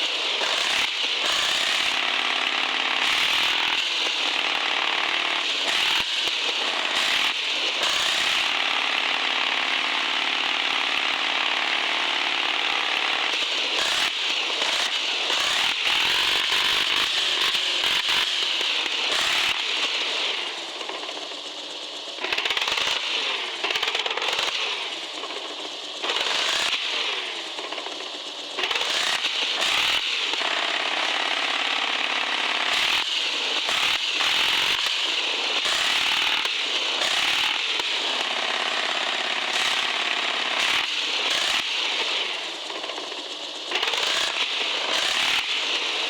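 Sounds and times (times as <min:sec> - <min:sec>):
toy car electric motor whining: 0:00.0 - 0:46.0.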